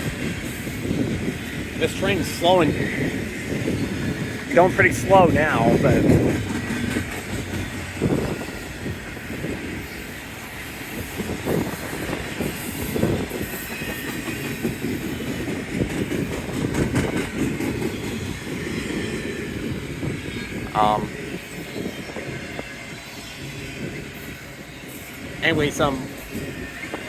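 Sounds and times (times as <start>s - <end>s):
freight train wheels rumbling on rail: 0.0s - 27.0s
train cars knocking and clacking: 0.0s - 27.0s.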